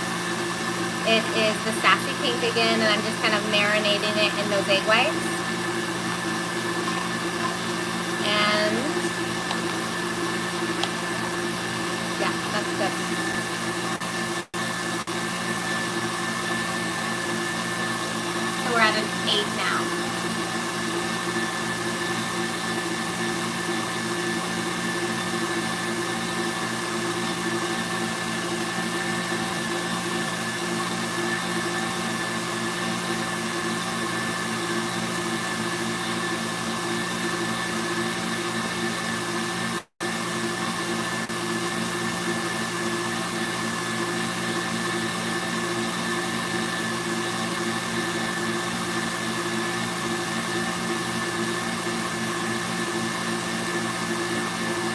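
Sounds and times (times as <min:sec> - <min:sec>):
stand mixer motor humming: 0:00.0 - 0:54.9.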